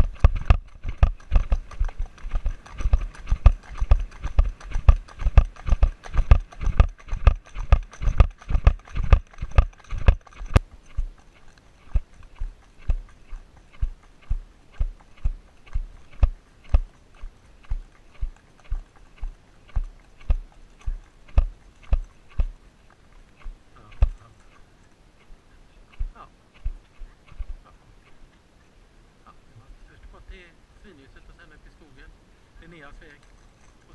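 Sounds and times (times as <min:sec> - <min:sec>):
horse hoof clicks: 0:00.0 - 0:28.4, 0:32.6 - 0:33.9.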